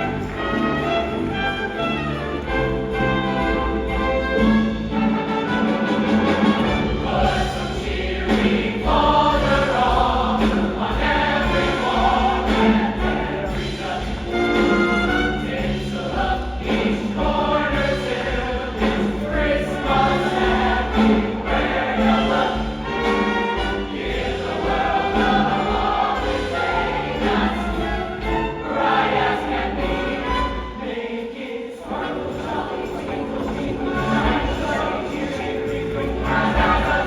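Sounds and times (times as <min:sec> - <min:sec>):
instrumental accompaniment with bass: 0:00.0 - 0:31.1, 0:31.9 - 0:37.0
choir singing: 0:00.0 - 0:37.0.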